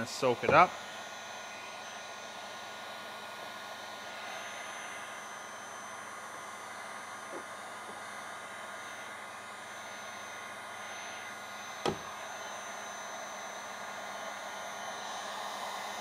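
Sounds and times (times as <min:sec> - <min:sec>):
heat gun fan whine: 0:00.0 - 0:16.0.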